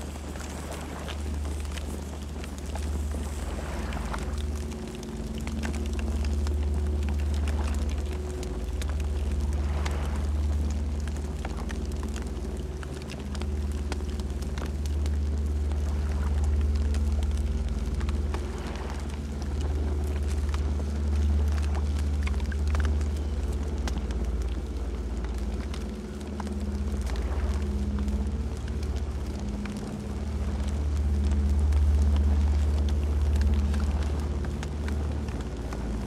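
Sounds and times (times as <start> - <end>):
burning wood crackling and popping: 0.0 - 36.0
campfire low rumble: 0.0 - 36.0.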